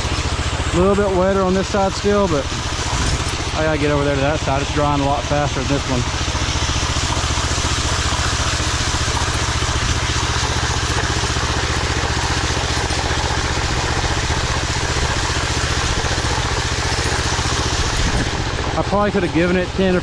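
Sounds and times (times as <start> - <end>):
power trowel engine running: 0.0 - 20.0.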